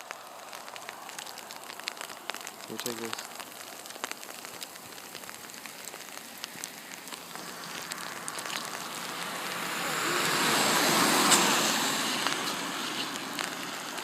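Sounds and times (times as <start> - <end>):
rushing hiss of sleet: 0.0 - 14.0
sleet pellets ticking on surfaces: 0.0 - 14.0.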